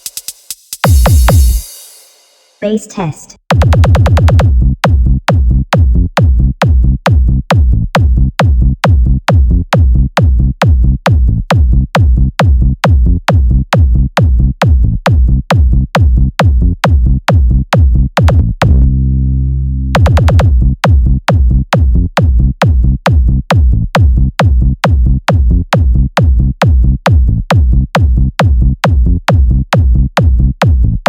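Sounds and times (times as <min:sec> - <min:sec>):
deep bass beat with clicks: 0:00.0 - 0:01.7, 0:03.4 - 0:31.0
held low bass tone: 0:04.4 - 0:31.0.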